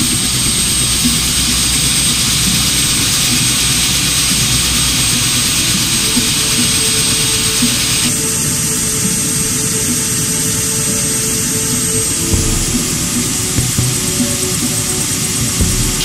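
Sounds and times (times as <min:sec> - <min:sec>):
helicopter turbine engine running: 0:00.0 - 0:16.0.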